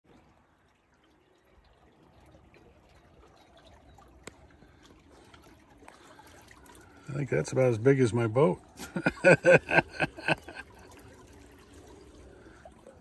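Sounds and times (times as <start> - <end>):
faint water lapping against boat: 0.1 - 13.0.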